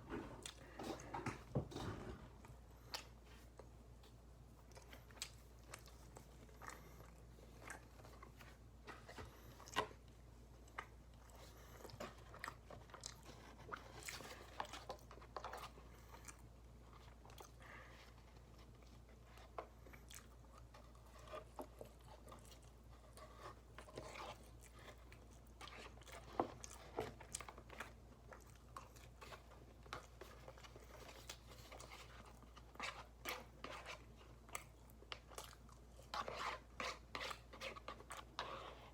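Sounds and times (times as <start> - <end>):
person chewing and crunching food: 0.0 - 38.9.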